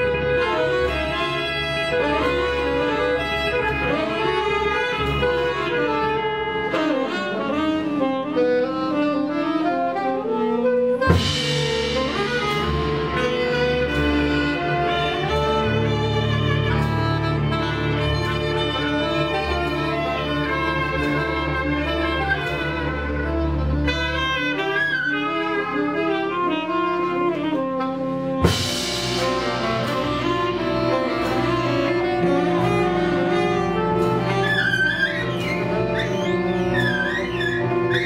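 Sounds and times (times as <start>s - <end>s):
bowed strings and saxophone: 0.0s - 38.0s.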